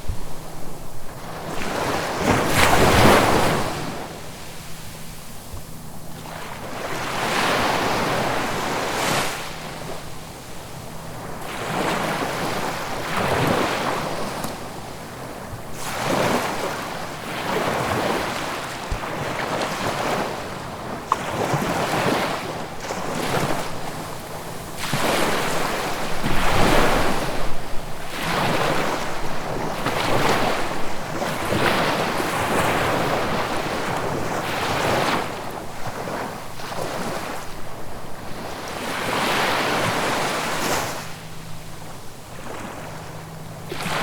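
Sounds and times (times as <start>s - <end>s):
sea waves breaking on shore: 0.0s - 44.0s.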